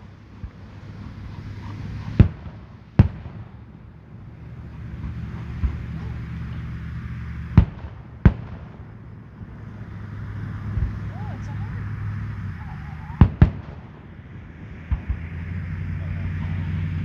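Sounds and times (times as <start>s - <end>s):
fireworks bangs: 0.0s - 17.0s
low background noise: 0.0s - 17.0s.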